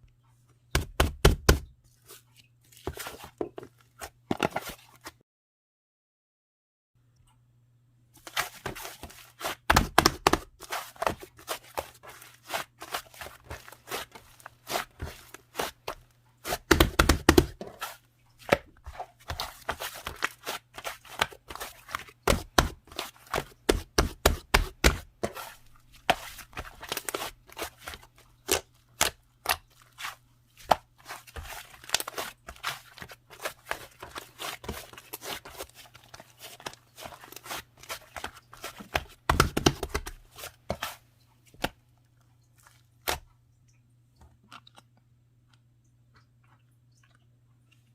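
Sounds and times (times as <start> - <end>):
faint steady hum: 7.0 - 47.9.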